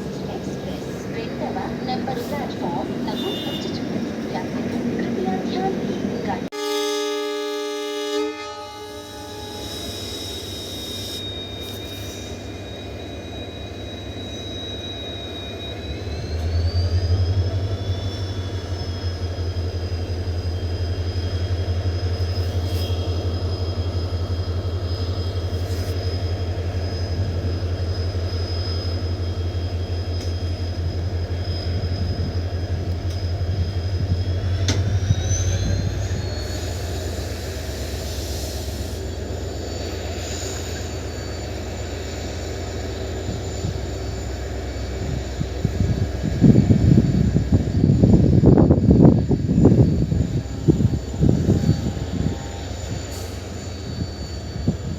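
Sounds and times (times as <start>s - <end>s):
locomotive engine rumbling: 0.0s - 6.6s, 8.6s - 54.9s
high turbocharger whine: 8.6s - 54.9s.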